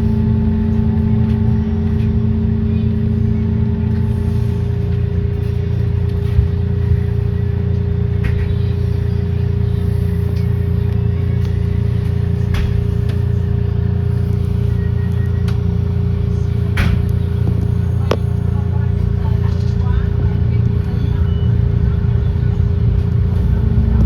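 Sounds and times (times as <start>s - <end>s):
trolley car rumbling: 0.0s - 24.0s.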